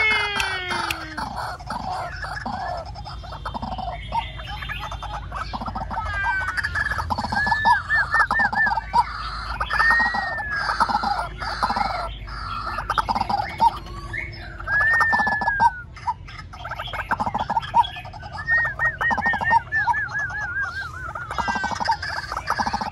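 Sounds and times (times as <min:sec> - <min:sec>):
waterhen calling: 0:00.0 - 0:22.9.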